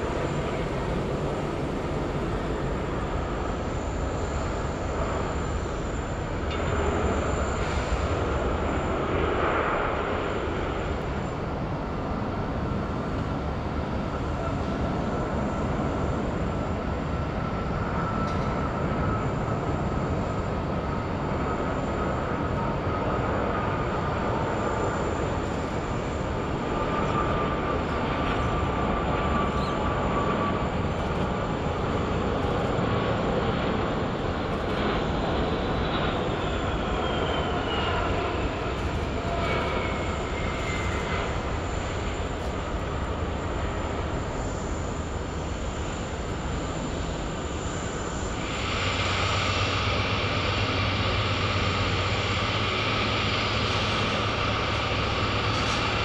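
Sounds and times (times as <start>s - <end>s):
jet engine rumble: 0.0s - 56.0s
jet engine whine falling in pitch: 0.0s - 56.0s.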